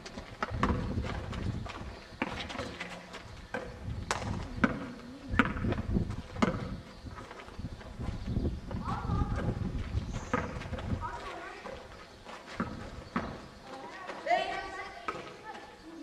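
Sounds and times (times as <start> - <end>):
basketball bouncing on asphalt: 0.0 - 15.8
running footsteps: 0.0 - 16.0.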